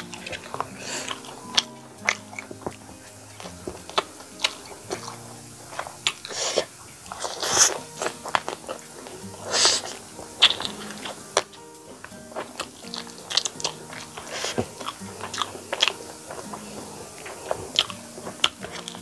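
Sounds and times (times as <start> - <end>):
mouth clicks and smacks: 0.0 - 19.0
smacking sucks: 0.0 - 19.0
wet chewing: 0.0 - 19.0.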